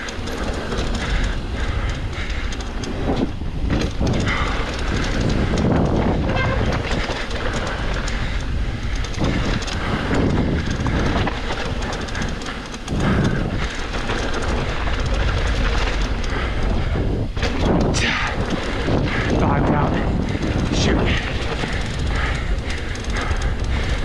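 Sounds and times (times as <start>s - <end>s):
mountain bike rattling over trail: 0.0s - 24.0s
wind on microphone: 0.9s - 24.0s.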